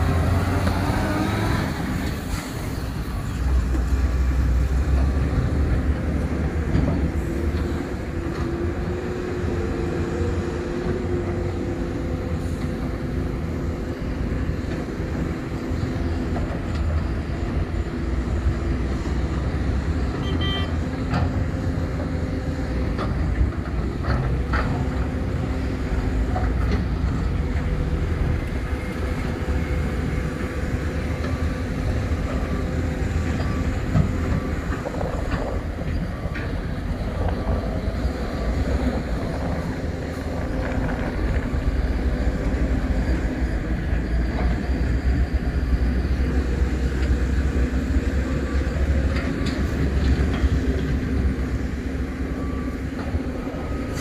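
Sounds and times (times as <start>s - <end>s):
heavy diesel engines droning: 0.0s - 54.0s.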